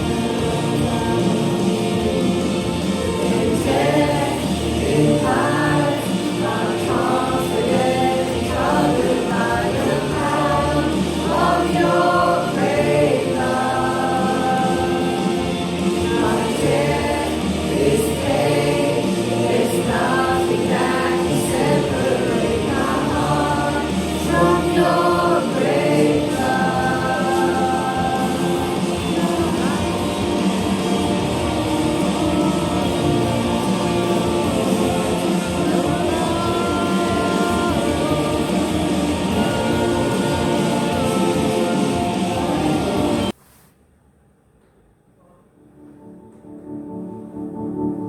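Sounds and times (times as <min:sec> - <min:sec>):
voices singing together: 0:00.0 - 0:43.3
gospel musical accompaniment: 0:00.0 - 0:43.4.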